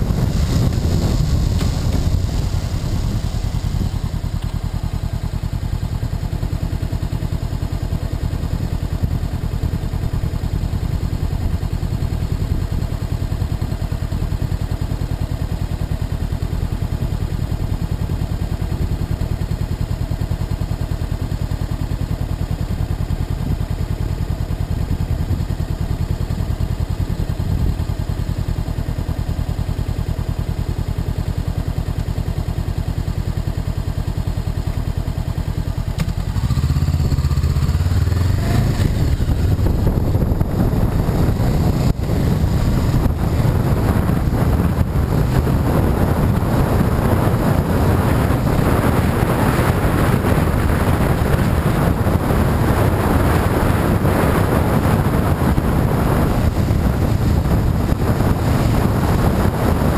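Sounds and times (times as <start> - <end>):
motorcycle engine cruising: 0.0 - 59.9
wind rush and road noise: 0.0 - 59.9.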